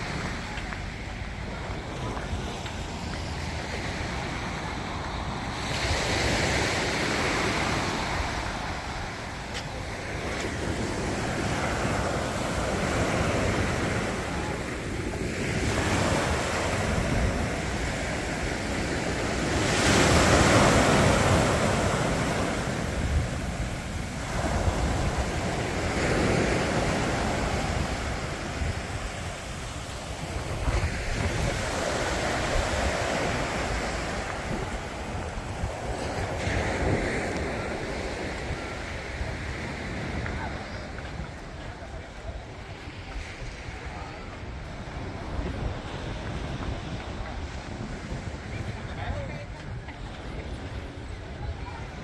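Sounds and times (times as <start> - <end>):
sea waves breaking on beach: 0.0 - 52.0
wind rumbling on microphone: 0.0 - 52.0.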